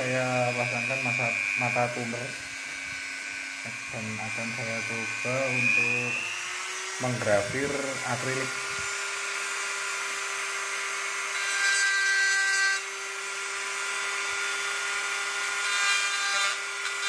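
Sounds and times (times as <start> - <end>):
rotary tool grinding plastic: 0.0 - 12.2, 12.8 - 17.0.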